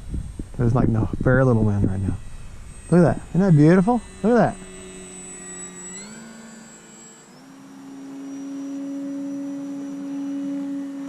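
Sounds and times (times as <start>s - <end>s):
rc plane motor whining drone: 0.0s - 11.0s.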